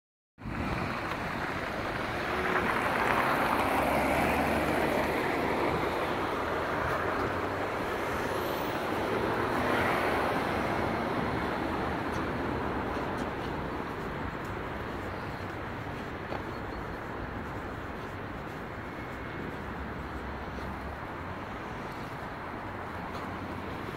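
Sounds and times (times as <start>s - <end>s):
street traffic rushing: 0.4s - 23.9s.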